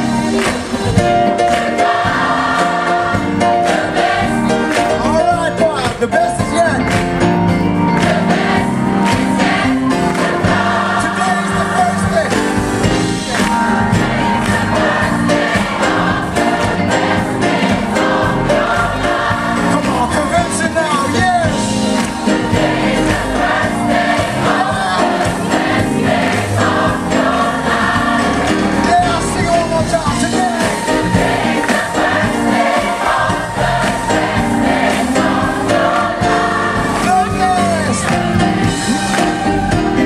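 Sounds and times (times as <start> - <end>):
gospel choir singing: 0.0 - 5.8, 7.3 - 40.0
live band with steady beat: 0.0 - 40.0.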